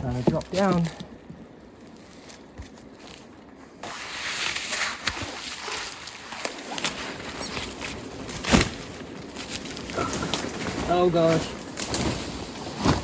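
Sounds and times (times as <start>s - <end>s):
leaves and branches rustling: 0.0s - 13.0s.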